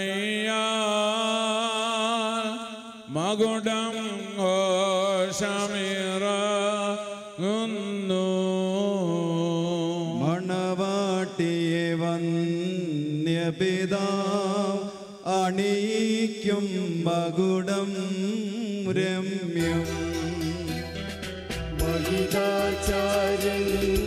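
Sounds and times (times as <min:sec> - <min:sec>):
man chanting a hymn: 0:00.0 - 0:20.8, 0:21.8 - 0:24.0.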